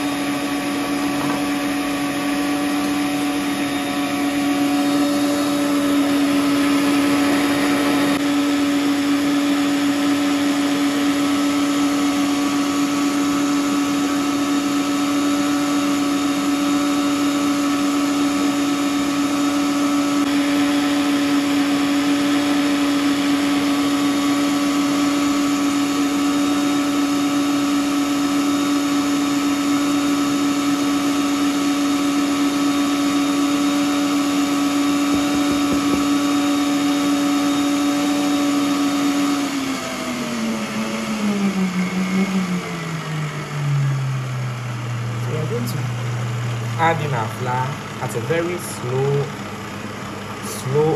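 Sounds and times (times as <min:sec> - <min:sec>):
stand mixer motor hum: 0:00.0 - 0:50.9.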